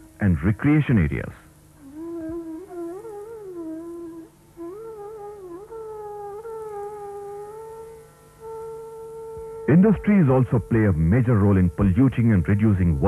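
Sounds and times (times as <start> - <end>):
slow wavering solo melody: 1.8 - 13.0.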